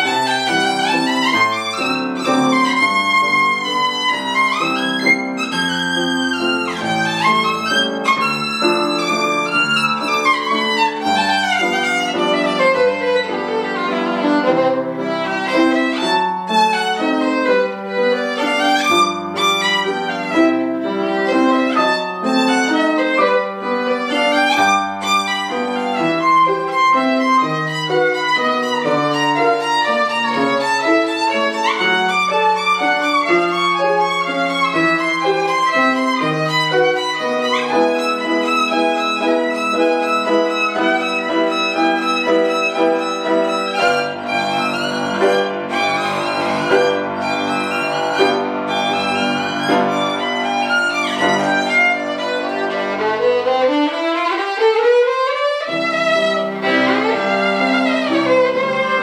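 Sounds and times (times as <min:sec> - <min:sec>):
grand piano accompaniment: 0:00.0 - 0:59.0
violin playing fast line: 0:00.0 - 0:59.0.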